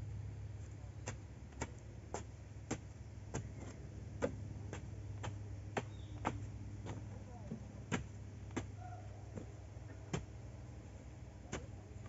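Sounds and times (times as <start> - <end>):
low steady hum: 0.0 - 12.0
wooden pole tamping soil: 0.6 - 12.0.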